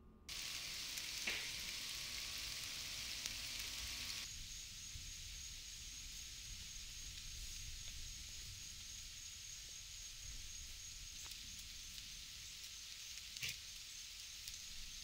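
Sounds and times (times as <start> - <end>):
high insect trill: 0.3 - 15.0
insect chorus hissing: 0.3 - 15.0.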